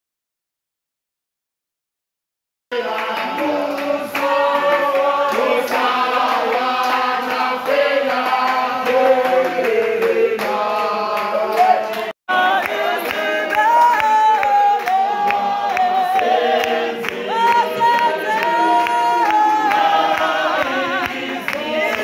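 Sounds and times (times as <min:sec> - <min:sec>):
group singing in harmony: 0:02.7 - 0:22.0.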